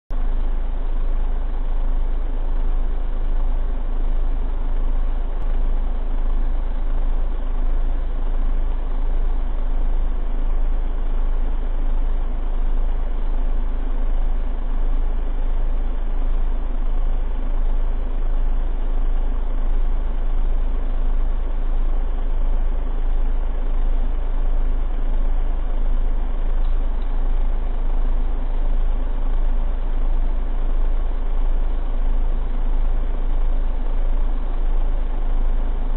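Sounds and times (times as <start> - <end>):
electric fan humming: 0.1 - 35.9.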